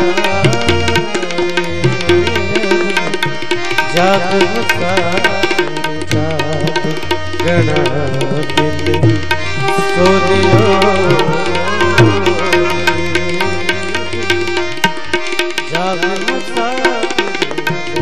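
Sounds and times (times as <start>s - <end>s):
hand drums: 0.0s - 18.0s
ornamented melodic line: 0.0s - 18.0s.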